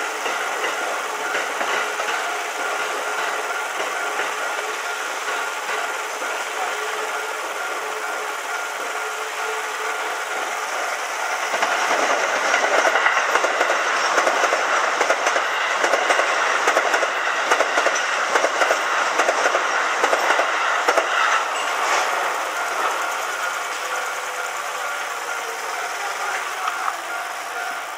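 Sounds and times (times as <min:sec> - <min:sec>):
train wheels clicking over rail joints: 0:00.0 - 0:27.9.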